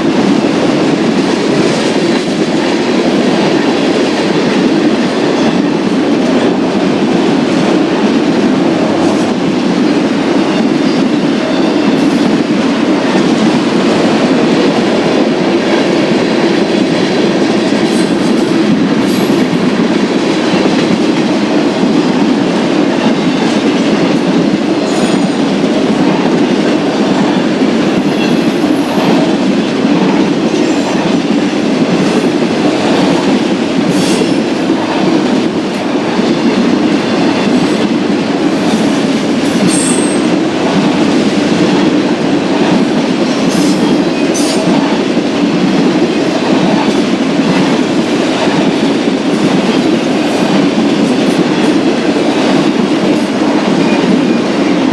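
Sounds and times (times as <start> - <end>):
steel train wheels rumbling on rail: 0.0 - 54.9.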